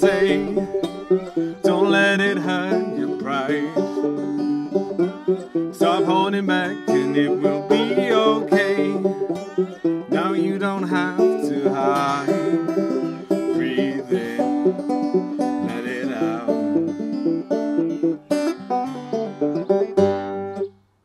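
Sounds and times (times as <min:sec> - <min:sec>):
acoustic guitar: 0:00.0 - 0:20.8
banjo: 0:00.0 - 0:20.8.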